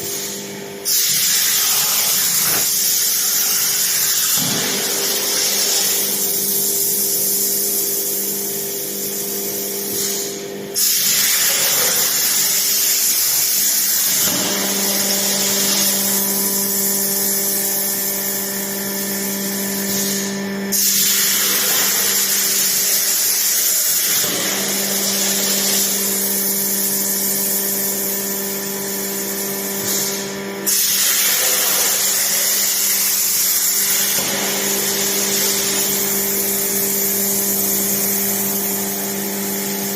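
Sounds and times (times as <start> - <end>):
plasma torch hissing: 0.1 - 8.4, 9.0 - 39.9.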